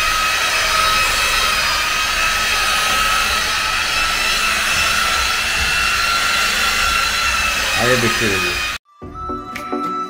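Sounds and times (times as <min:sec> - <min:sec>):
car polisher high whine: 0:00.0 - 0:08.8.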